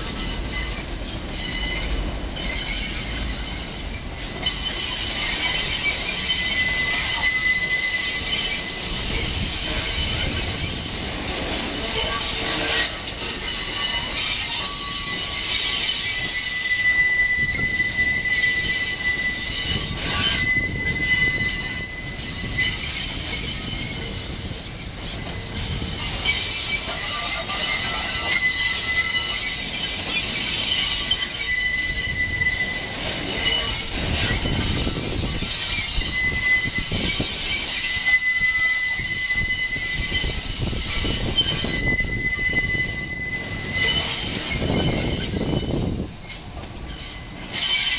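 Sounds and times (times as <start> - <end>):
low rumble of train: 0.0 - 47.9
steel wheels squealing on rails: 0.0 - 47.9.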